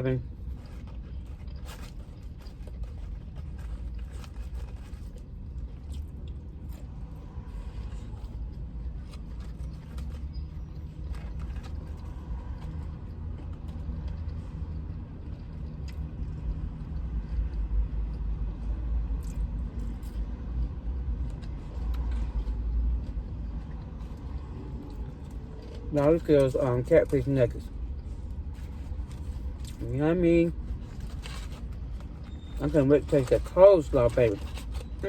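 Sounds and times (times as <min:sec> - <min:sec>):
vehicle rumble: 0:00.0 - 0:35.0
chewing and biting: 0:00.3 - 0:29.9, 0:30.5 - 0:35.0.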